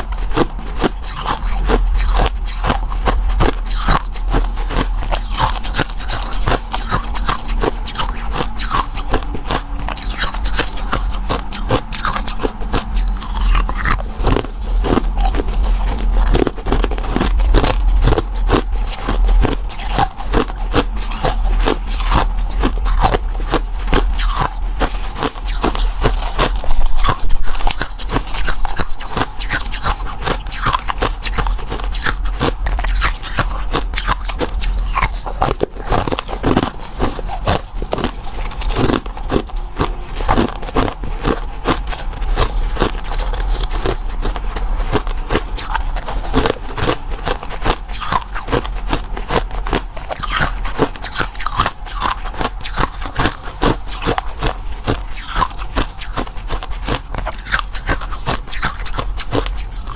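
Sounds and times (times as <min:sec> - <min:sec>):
biting and crunching food: 0:00.0 - 0:59.9
low hum: 0:00.0 - 0:59.9.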